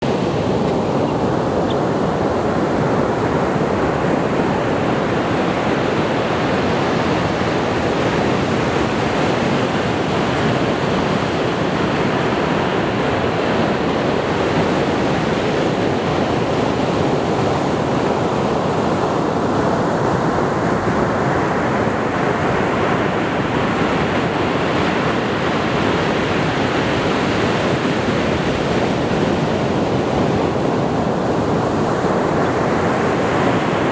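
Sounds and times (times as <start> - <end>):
sea waves washing on shore: 0.0 - 33.9.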